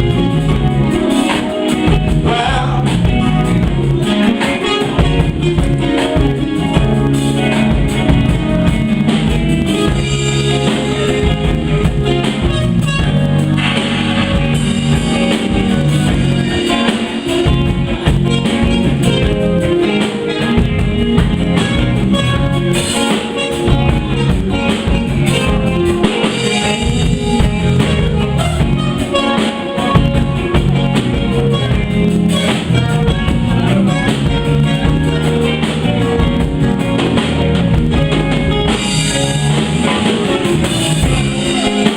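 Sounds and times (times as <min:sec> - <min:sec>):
live band playing: 0:00.0 - 0:41.9.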